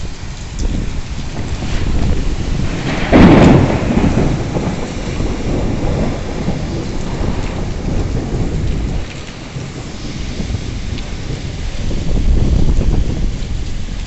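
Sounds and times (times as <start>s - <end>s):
rain falling: 0.0s - 14.0s
thunder rumbling: 0.0s - 14.0s.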